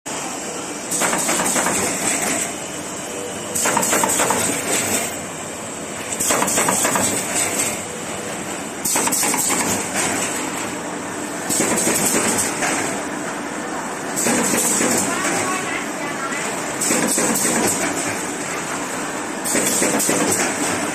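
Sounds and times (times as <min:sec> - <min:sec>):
machine running: 0:00.1 - 0:20.9
machine clatter and hiss: 0:00.8 - 0:20.9.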